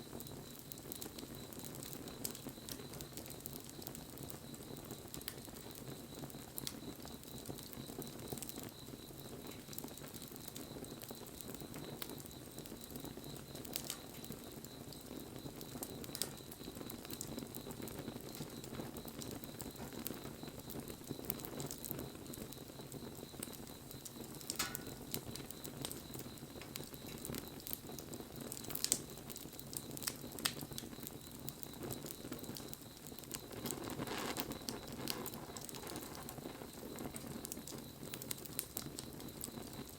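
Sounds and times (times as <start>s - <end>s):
fire crackles and pops: 0.0s - 39.9s
wood fire flames rushing: 0.0s - 39.9s.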